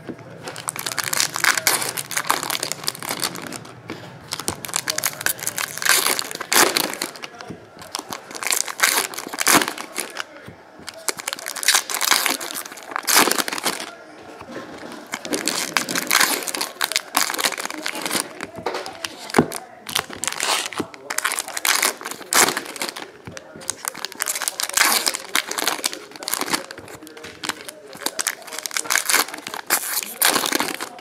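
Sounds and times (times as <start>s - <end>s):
foil wrappers crinkling: 0.0s - 31.0s.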